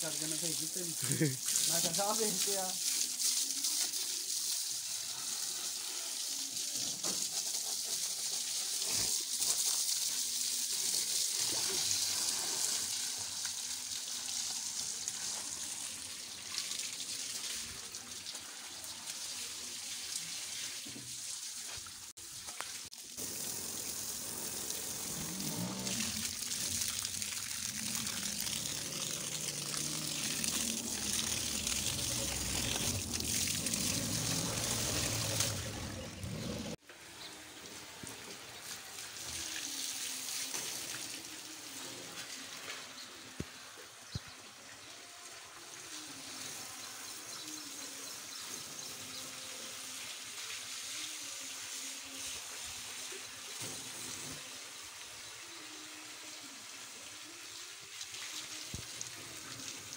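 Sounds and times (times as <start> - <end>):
hose water spraying and splashing: 0.0 - 59.9.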